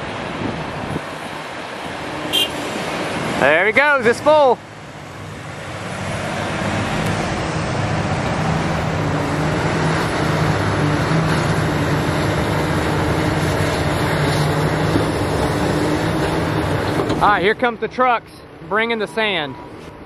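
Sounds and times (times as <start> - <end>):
dump truck diesel engine: 0.0 - 20.0.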